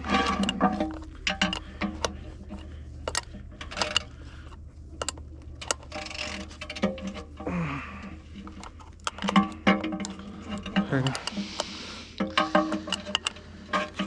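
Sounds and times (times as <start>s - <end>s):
metallic clicks and knocks: 0.0s - 14.0s
steady low hum: 0.0s - 14.0s.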